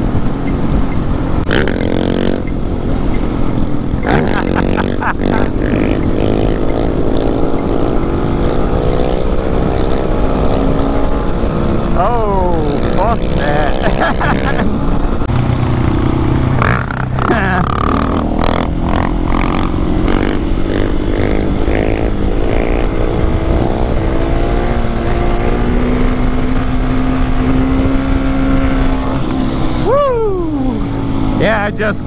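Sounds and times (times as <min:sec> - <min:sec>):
motorcycle engine running: 0:00.0 - 0:32.0
wind noise: 0:00.0 - 0:32.0.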